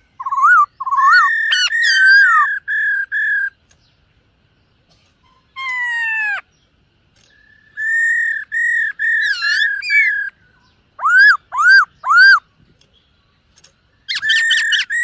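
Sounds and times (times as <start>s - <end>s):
bird singing whistled notes: 0.0s - 4.0s, 5.3s - 15.0s.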